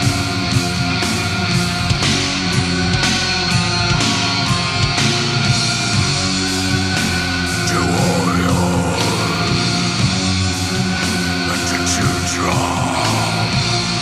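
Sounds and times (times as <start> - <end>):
heavy slow metal guitar chords: 0.0 - 14.0.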